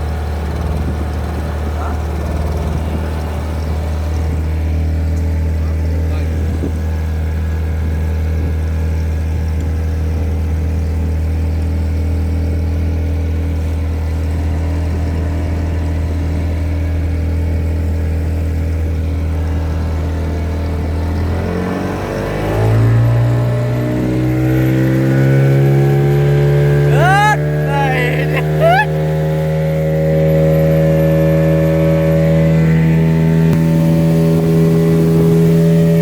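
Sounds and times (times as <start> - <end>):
boat engine running and revving: 0.0 - 27.7, 28.4 - 36.0.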